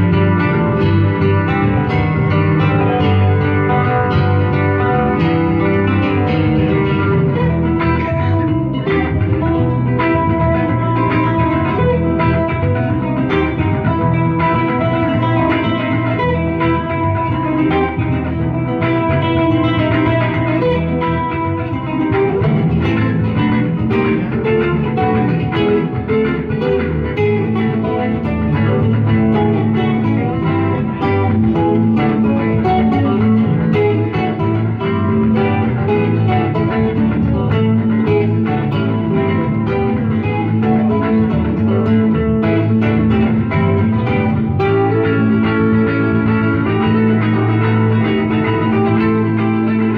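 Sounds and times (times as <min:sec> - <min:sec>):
acoustic guitar: 0:00.0 - 0:49.9
electric guitar: 0:00.0 - 0:49.9
low bass notes: 0:00.0 - 0:49.9.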